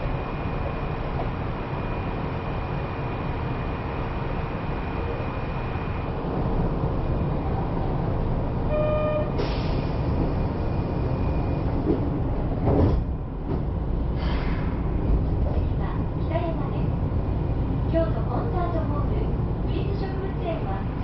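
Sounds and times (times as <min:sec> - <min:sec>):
train car rumble and hum: 0:00.0 - 0:21.0.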